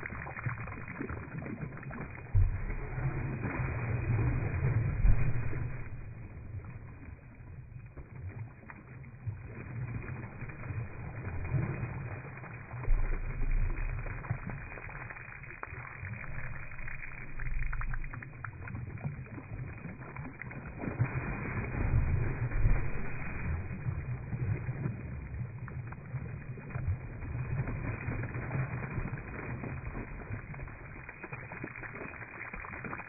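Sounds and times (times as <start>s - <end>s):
slowed water splashing whooshes: 0.0s - 33.0s.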